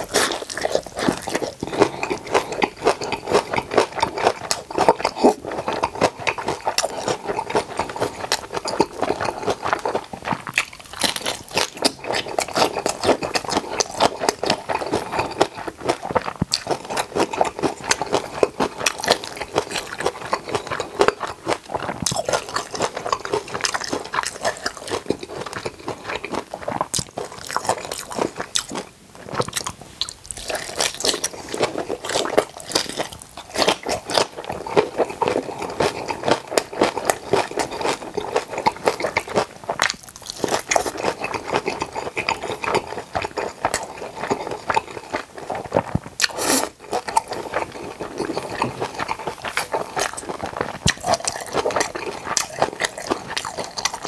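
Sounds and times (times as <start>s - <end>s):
wet crunchy chewing: 0.0s - 54.0s.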